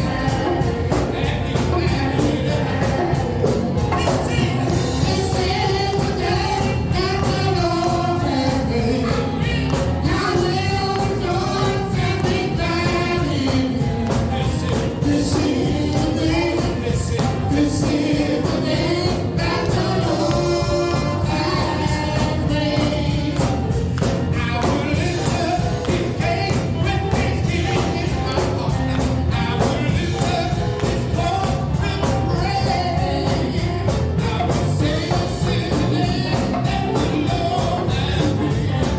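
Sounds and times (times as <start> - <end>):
gospel worship music with singing: 0.0 - 38.9.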